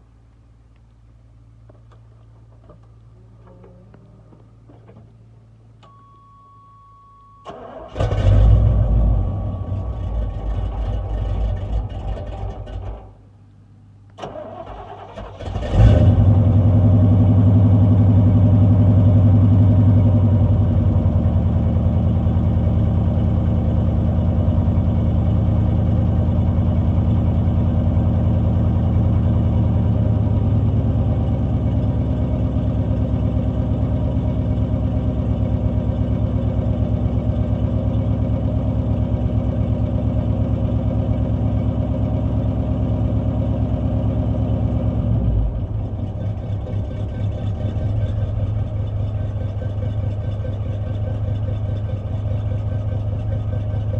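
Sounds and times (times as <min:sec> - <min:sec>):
engine idling: 0:07.5 - 0:13.3, 0:14.2 - 0:53.9.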